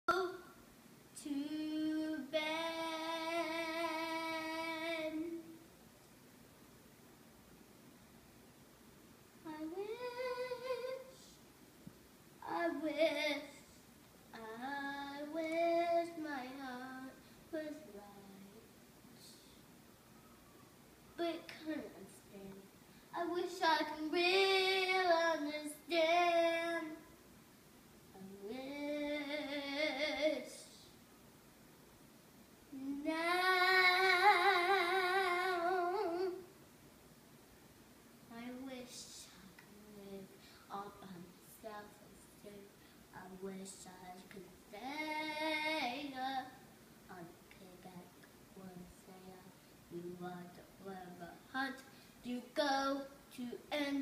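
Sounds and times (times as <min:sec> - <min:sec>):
girl singing: 0:00.1 - 0:05.7, 0:09.4 - 0:11.5, 0:12.4 - 0:19.7, 0:21.1 - 0:27.2, 0:28.1 - 0:31.0, 0:32.7 - 0:36.6, 0:38.3 - 0:54.0.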